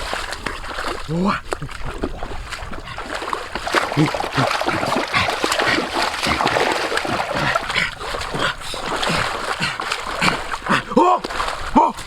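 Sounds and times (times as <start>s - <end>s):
water splashing in a stream: 0.0s - 12.0s.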